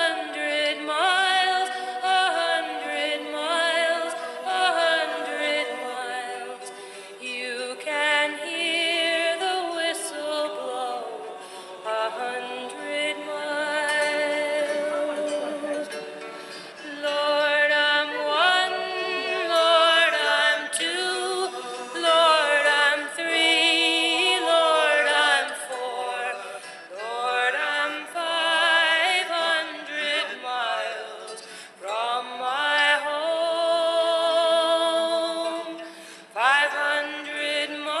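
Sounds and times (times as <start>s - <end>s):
person singing with vibrato: 0.0s - 38.0s.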